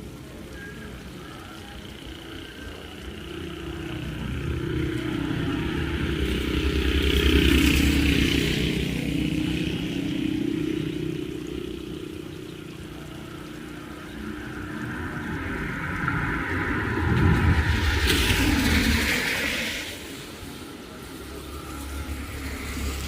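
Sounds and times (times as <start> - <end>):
vehicle driving past: 2.2 - 23.0.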